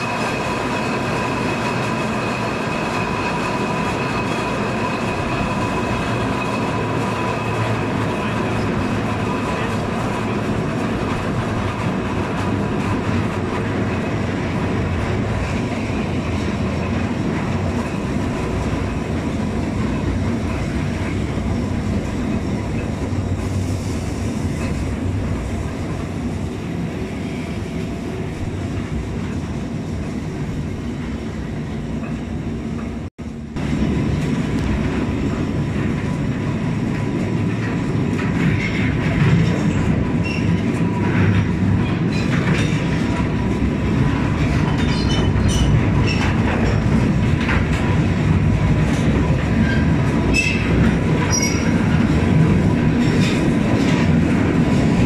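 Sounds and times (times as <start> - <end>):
train wagons rumbling and rattling: 0.0 - 55.0.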